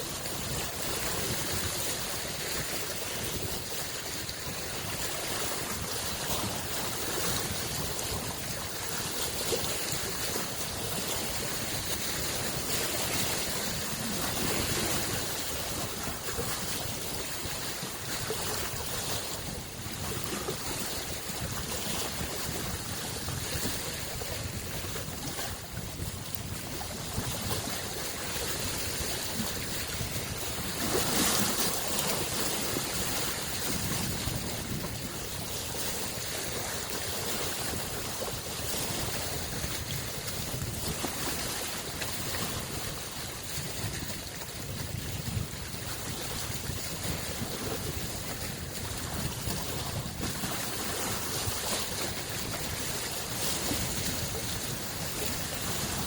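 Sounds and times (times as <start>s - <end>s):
lake waves lapping on shore: 0.0s - 56.0s
wind: 0.0s - 56.0s.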